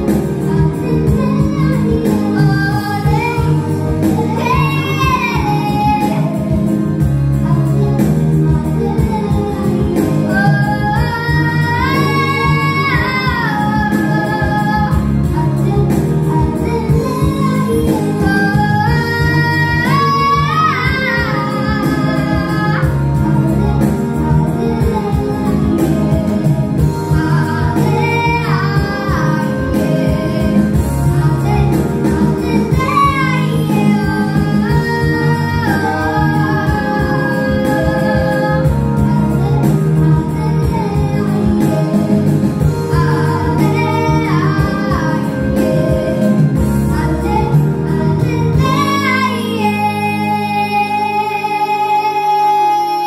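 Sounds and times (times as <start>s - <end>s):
girl singing a carol: 0.0s - 6.7s, 7.4s - 23.8s, 27.1s - 42.2s, 42.8s - 53.0s
instrumental backing track: 0.0s - 53.0s.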